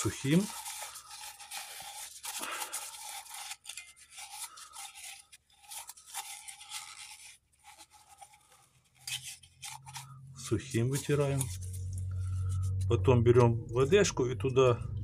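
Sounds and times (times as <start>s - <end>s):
rubbing and scrubbing strokes: 0.0s - 12.9s.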